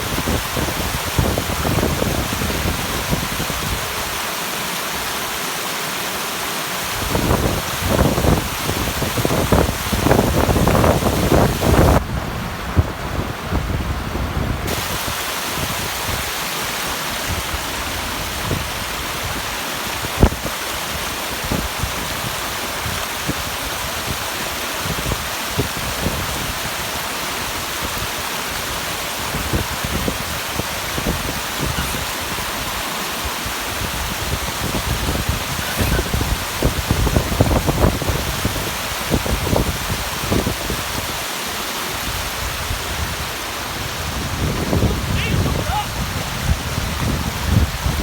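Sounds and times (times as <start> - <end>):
water rushing down waterfall: 0.0 - 48.0.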